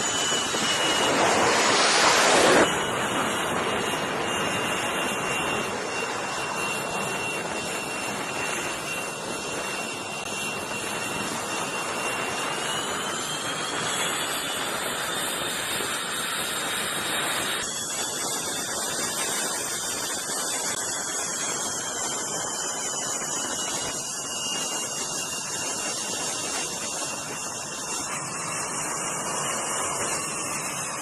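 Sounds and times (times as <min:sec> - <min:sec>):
jet engine whine: 0:00.0 - 0:31.0.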